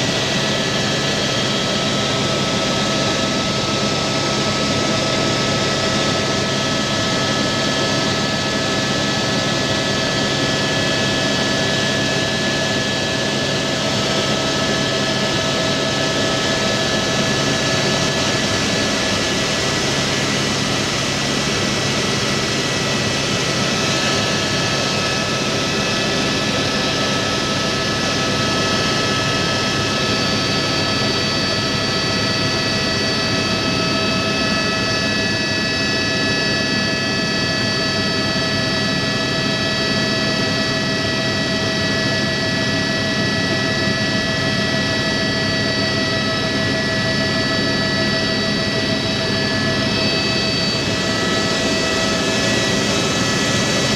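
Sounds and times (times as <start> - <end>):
helicopter engine and rotor noise: 0.0 - 53.9.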